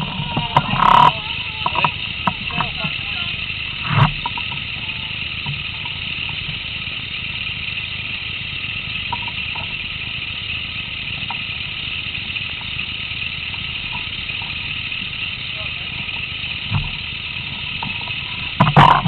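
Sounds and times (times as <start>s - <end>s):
high hiss: 0.0s - 19.0s
motorcycle engine idling: 0.0s - 19.0s.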